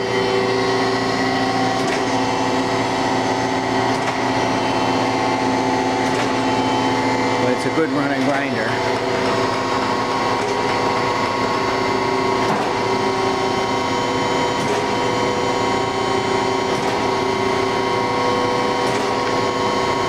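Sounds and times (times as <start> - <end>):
grinder motor humming: 0.0 - 20.0.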